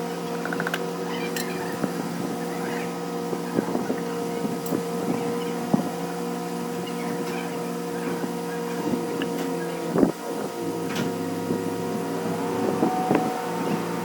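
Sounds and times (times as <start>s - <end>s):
machine running steadily: 0.0s - 14.0s.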